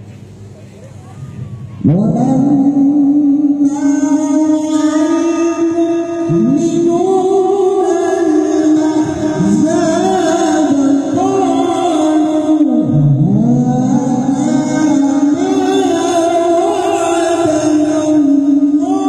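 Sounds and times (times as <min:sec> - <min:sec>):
man chanting melodically: 0:01.8 - 0:19.0.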